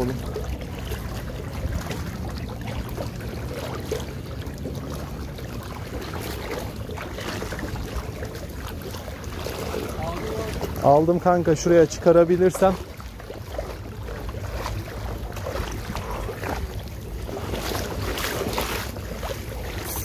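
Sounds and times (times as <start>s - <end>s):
small waves lapping: 0.0s - 20.0s.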